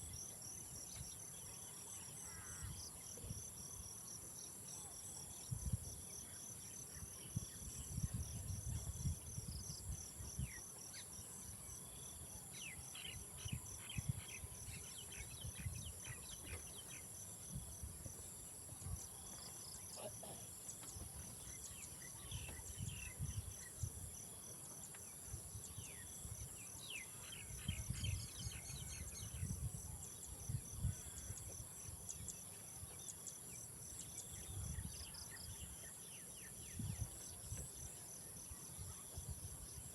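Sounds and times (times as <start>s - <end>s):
pulsing cricket chirp: 0.0s - 39.9s.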